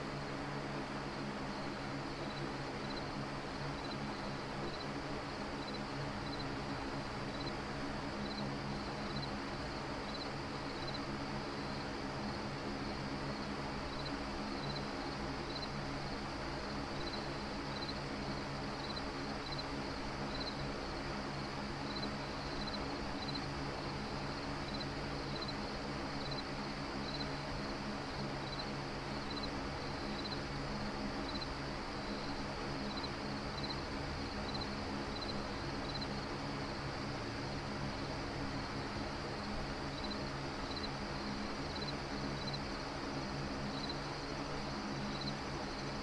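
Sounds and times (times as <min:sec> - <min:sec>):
ambient hum and hiss: 0:00.0 - 0:46.0
cricket chirping: 0:01.2 - 0:46.0.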